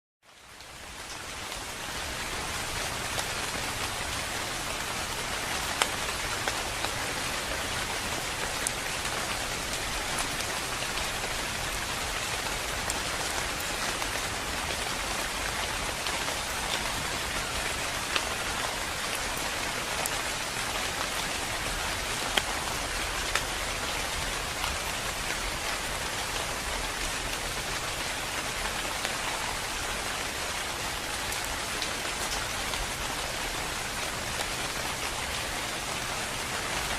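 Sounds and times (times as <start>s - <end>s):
steady rain falling: 0.2s - 36.9s.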